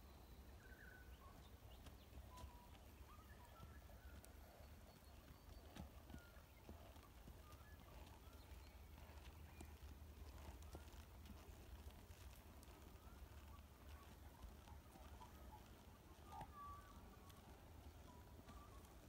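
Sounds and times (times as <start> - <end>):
bird chirps: 0.0 - 11.5, 12.1 - 19.0
horse hoofbeats on dirt: 0.6 - 19.0.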